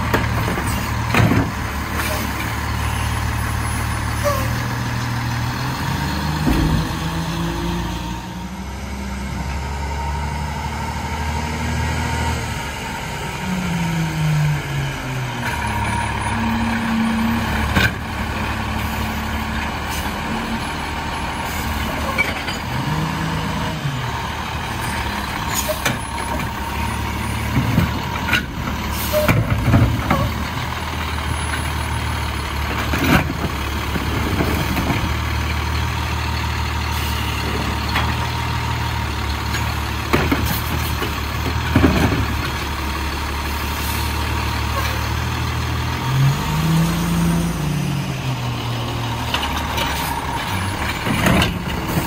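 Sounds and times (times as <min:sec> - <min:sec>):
garbage truck engine running: 0:00.0 - 0:52.0.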